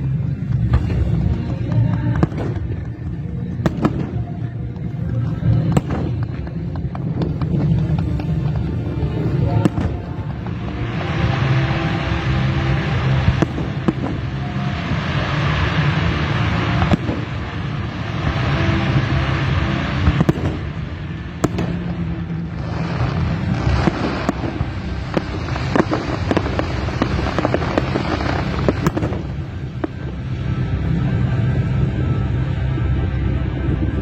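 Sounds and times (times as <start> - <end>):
firework bangs: 0.0 - 30.9
firework crackling: 0.0 - 34.0
low rumble: 0.0 - 34.0.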